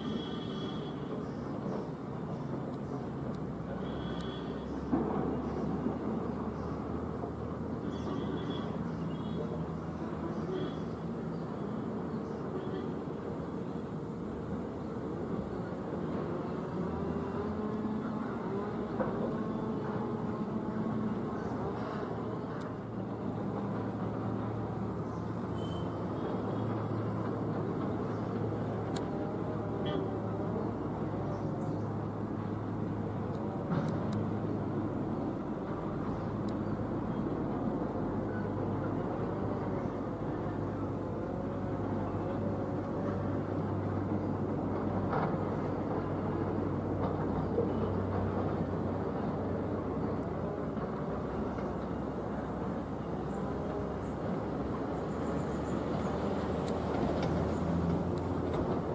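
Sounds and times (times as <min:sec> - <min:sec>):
propeller airliner drone overhead: 0:00.0 - 0:58.9.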